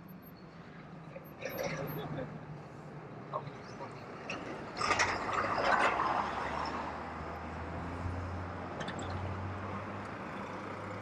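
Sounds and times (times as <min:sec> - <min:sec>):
low traffic drone: 0:00.0 - 0:11.0.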